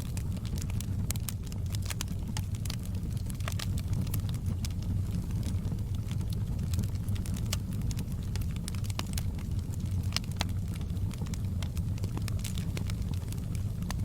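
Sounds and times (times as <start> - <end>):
fire crackles and pops: 0.0 - 14.0
fire low rumble: 0.0 - 14.0.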